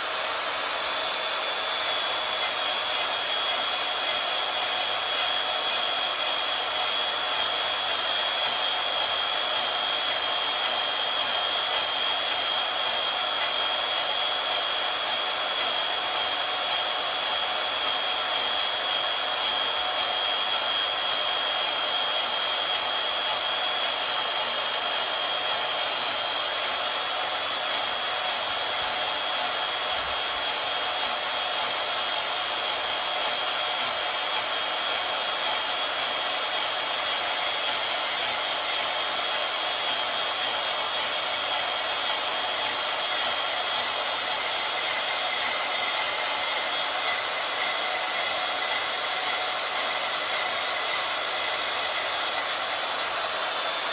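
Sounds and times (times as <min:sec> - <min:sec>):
bandsaw cutting metal: 0:00.0 - 0:53.9.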